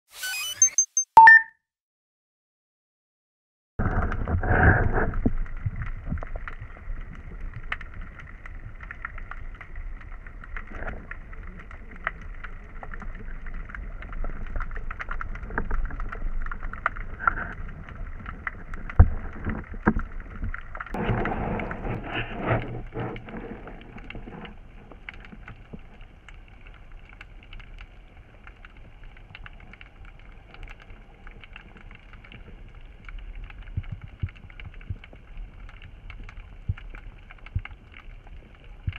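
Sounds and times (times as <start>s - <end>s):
small underwater clicks: 3.8s - 38.9s
underwater water rush: 3.8s - 38.9s.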